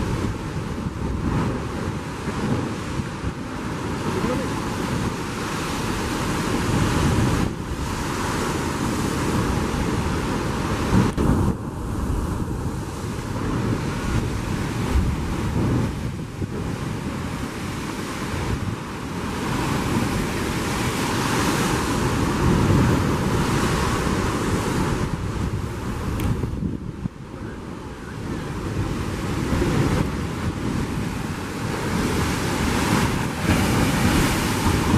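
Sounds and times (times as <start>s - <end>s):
sea surf breaking on rocks: 0.0s - 34.9s
wind buffeting microphone: 0.0s - 34.9s.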